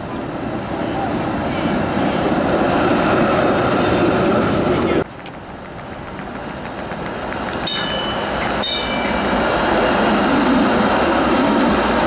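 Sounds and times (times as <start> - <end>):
streetcar rumbling on track: 0.0 - 12.0.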